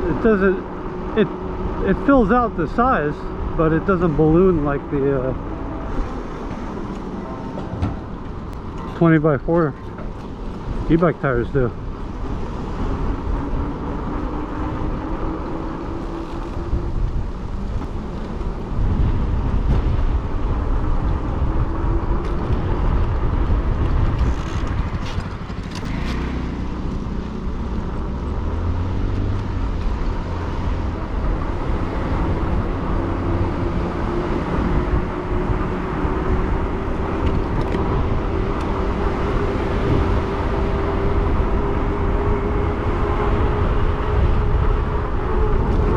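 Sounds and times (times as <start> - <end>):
wind on microphone: 0.0 - 45.9.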